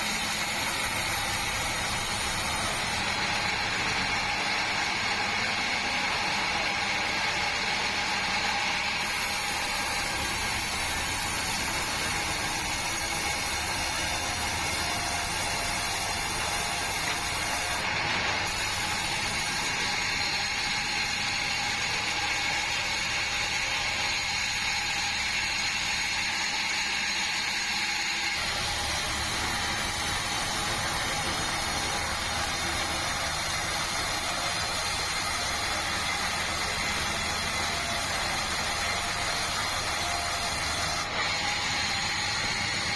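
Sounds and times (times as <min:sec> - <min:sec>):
band saw droning: 0:00.0 - 0:42.9
high-pitched saw whine: 0:00.0 - 0:42.9.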